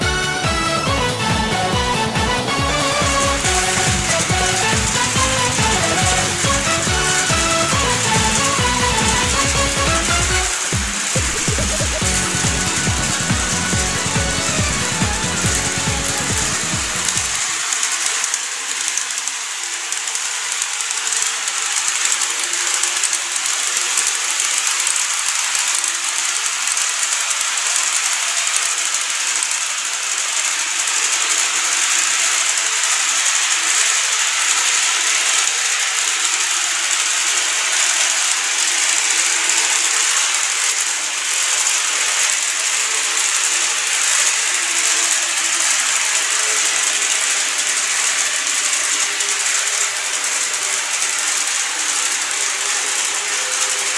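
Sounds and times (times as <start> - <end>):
small metal wheels rattling on rails: 2.4 - 53.9.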